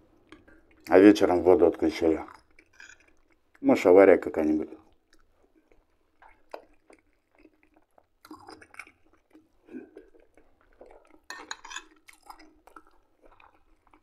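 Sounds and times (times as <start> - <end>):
man chewing: 0.0 - 0.9, 2.2 - 3.6, 4.8 - 14.0.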